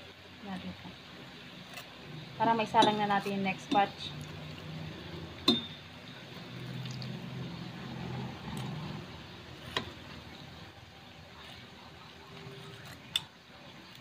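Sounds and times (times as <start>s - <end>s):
food sizzling in hot oil: 1.0s - 12.2s.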